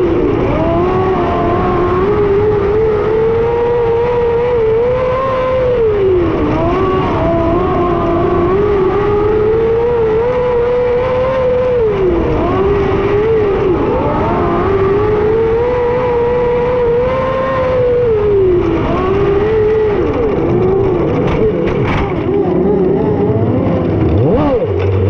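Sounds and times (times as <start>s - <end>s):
car rumbling on dirt: 0.0s - 25.0s
motorcycle engine revving high: 0.0s - 25.0s.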